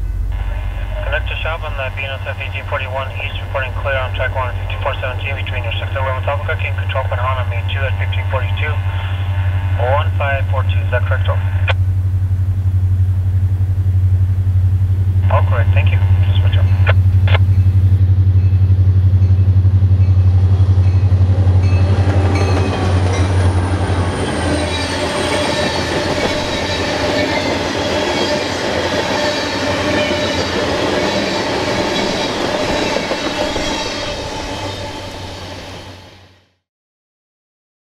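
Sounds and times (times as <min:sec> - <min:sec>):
rail cars rolling past: 0:00.0 - 0:11.6, 0:15.9 - 0:36.4
diesel locomotive engine drone: 0:00.0 - 0:36.6.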